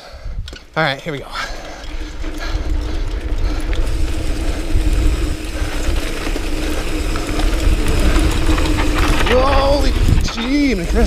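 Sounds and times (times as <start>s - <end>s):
bike hum: 0.0s - 11.0s
wind on microphone: 2.0s - 11.0s.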